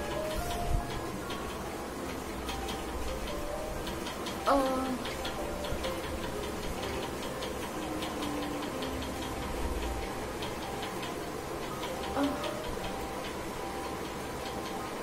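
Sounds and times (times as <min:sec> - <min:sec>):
light even ticking: 0:00.0 - 0:15.0.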